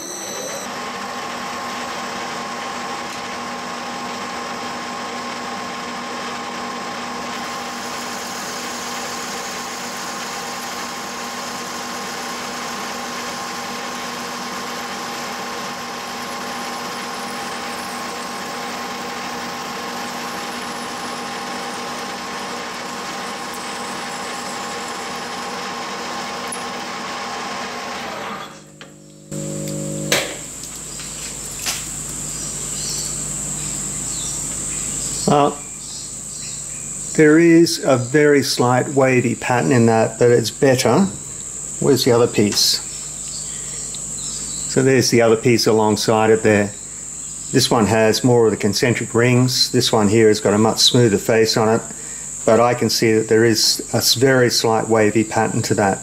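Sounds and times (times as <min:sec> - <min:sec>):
lathe whining: 0:00.0 - 0:56.0.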